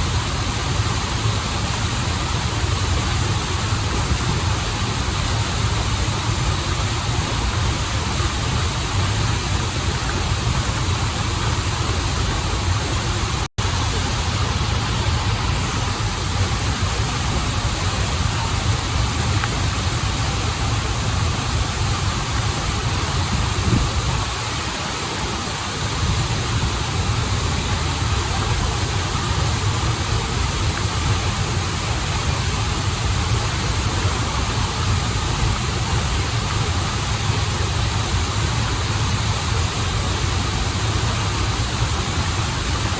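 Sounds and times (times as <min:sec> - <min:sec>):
stream and small waterfalls rushing: 0:00.0 - 0:42.9.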